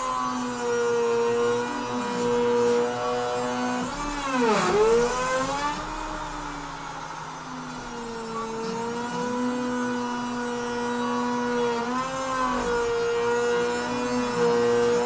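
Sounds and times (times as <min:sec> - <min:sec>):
router spindle cutting wood: 0:00.0 - 0:15.0.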